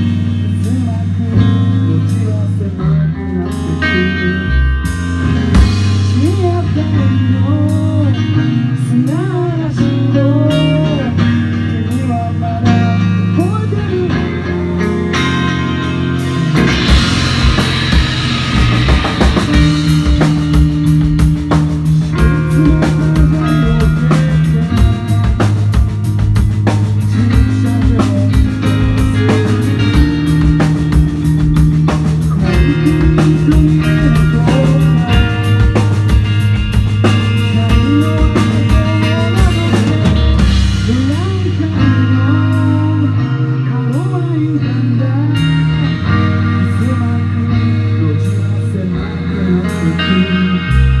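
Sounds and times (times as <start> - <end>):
rock band playing: 0.0 - 51.0.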